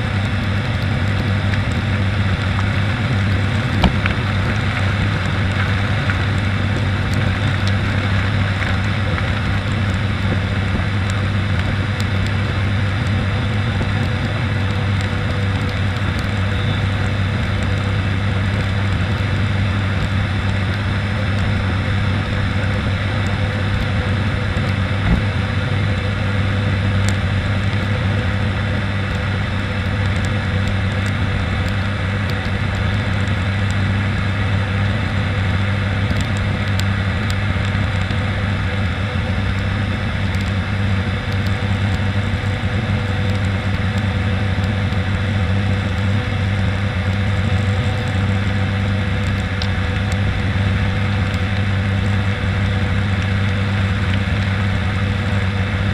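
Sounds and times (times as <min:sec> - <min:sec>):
turboprop engines droning: 0:00.0 - 0:55.9.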